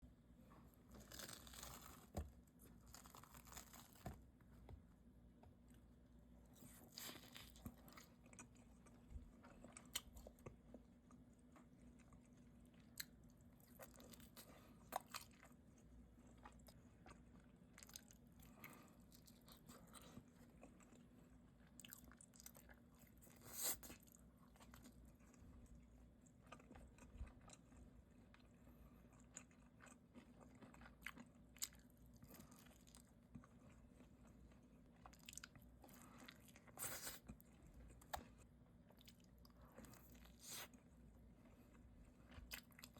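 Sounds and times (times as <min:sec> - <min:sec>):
chewing and biting food: 0:00.8 - 0:04.3, 0:06.5 - 0:42.9.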